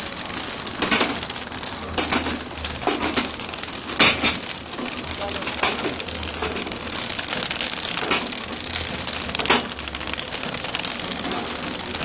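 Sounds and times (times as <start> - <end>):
metallic clacks of packing machine: 0.0 - 12.0.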